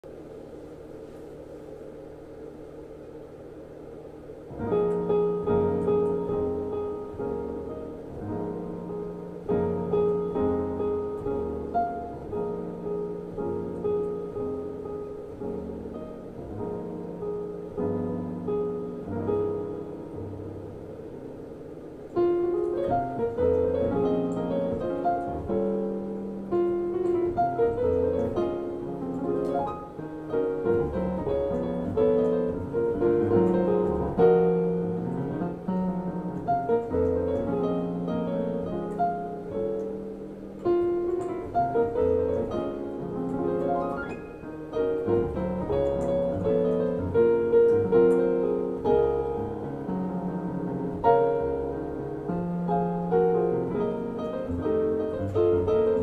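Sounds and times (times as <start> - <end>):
solo jazz piano: 0.0 - 56.0.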